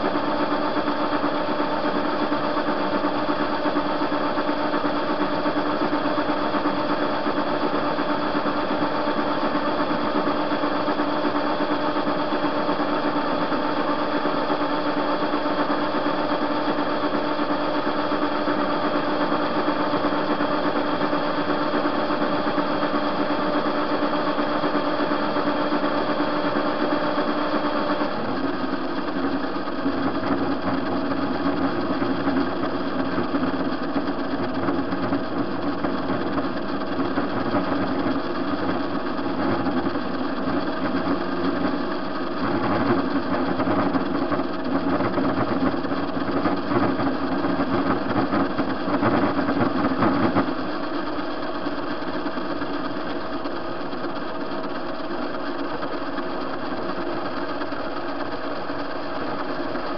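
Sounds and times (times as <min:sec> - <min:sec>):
metal lathe running: 0:00.0 - 0:59.9.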